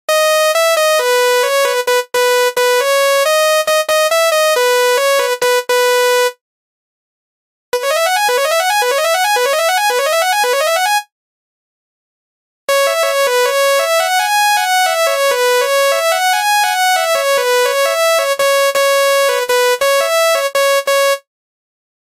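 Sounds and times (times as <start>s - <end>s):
electronic bus horn melody: 0.1s - 6.4s, 7.8s - 11.1s, 12.7s - 21.3s.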